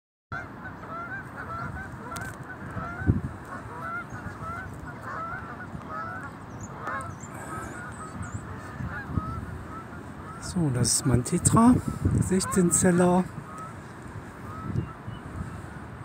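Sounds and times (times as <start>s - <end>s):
geese honking: 0.3s - 15.8s.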